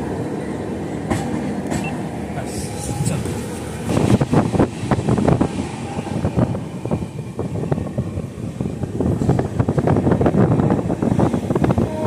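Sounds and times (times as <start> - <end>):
train coach rumbling on track: 0.0 - 12.0.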